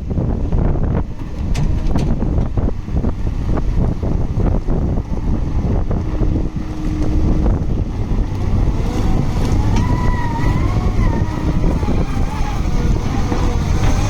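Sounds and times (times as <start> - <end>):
excavator diesel engine rumbling: 0.0 - 14.0
wavering whine: 2.2 - 14.0.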